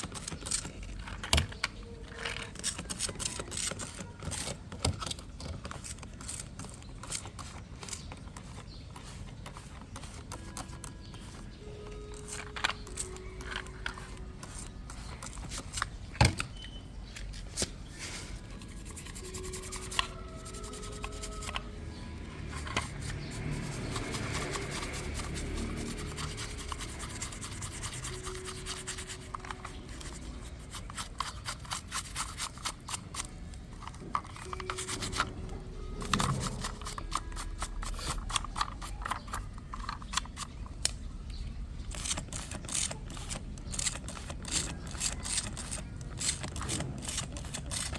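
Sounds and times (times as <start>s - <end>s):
small tools scraping and rubbing: 0.0s - 40.7s, 41.8s - 47.9s.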